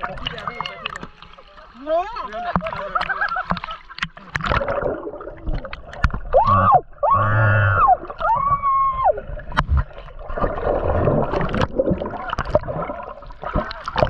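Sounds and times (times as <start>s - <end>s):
water gurgling and splashing: 0.0s - 14.0s.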